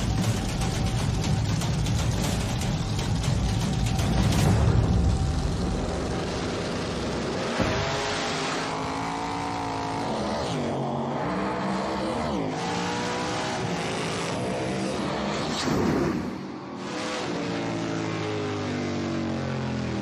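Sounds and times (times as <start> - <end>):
racing car engines revving: 0.0 - 20.0.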